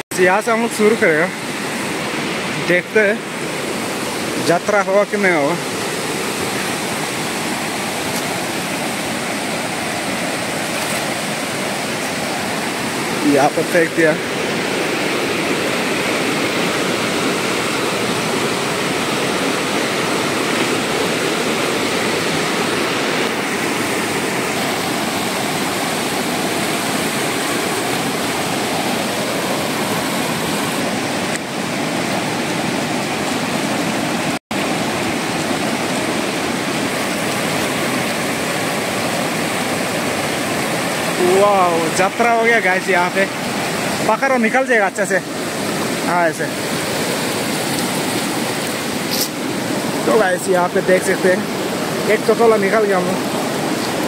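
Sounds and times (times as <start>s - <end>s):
river rapids rushing over rocks: 0.2s - 54.0s.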